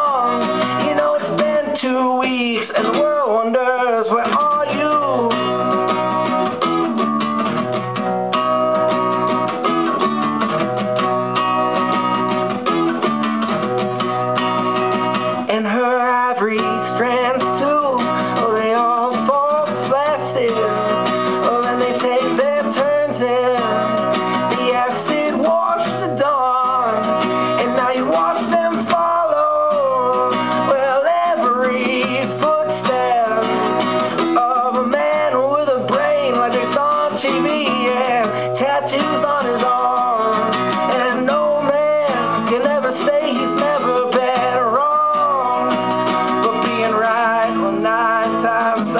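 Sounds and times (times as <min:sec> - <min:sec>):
man singing: 0:00.0 - 0:06.4, 0:15.3 - 0:48.9
acoustic guitar strumming: 0:00.0 - 0:48.9.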